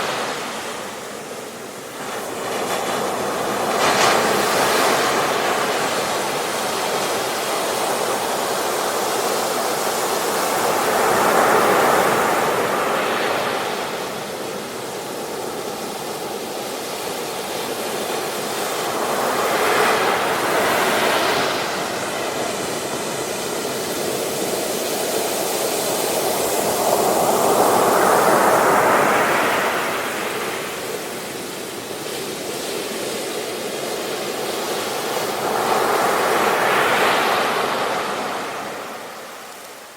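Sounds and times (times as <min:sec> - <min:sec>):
waves on a beach: 0:00.0 - 0:39.9.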